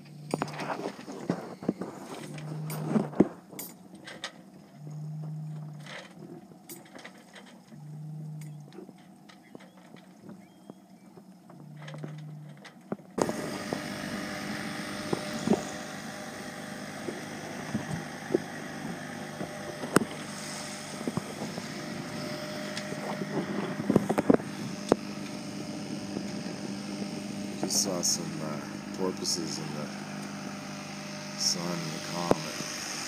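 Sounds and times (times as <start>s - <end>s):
boat motor running: 0.0s - 33.0s.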